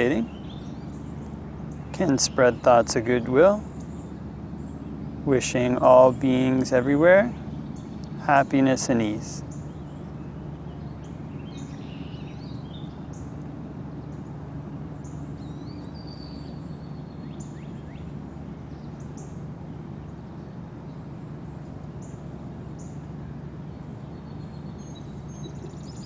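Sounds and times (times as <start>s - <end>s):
low outdoor hum: 0.0s - 26.0s
songbirds chirping: 0.0s - 26.0s.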